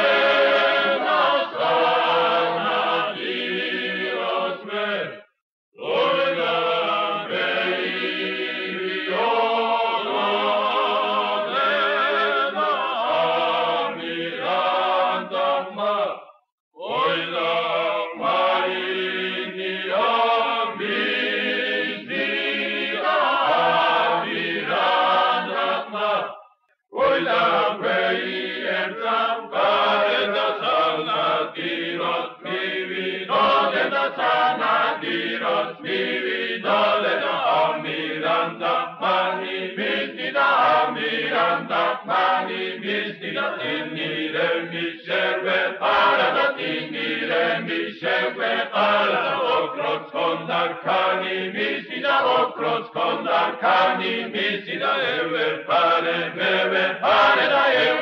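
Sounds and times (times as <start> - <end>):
choral chanting: 0.0 - 58.0.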